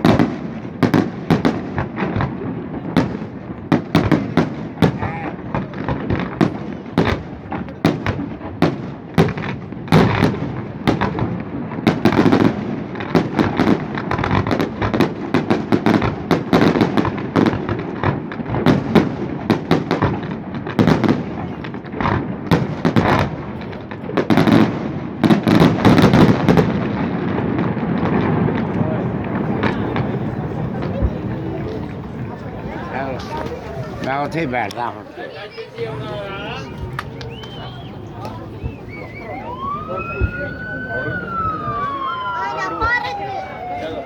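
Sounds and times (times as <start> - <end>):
fireworks bangs and crackling pops: 0.0 - 35.0, 35.8 - 44.0.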